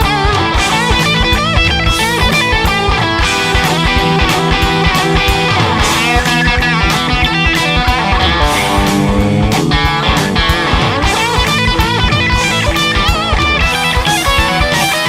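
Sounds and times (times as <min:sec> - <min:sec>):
overdriven electric guitar riff: 0:00.0 - 0:15.0.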